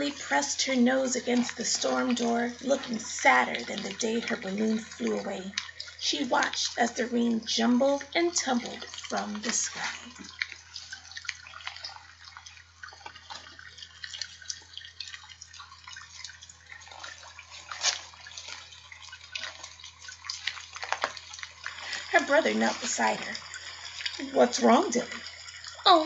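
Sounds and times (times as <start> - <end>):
rain patter: 0.0 - 26.0
water drips: 0.0 - 26.0.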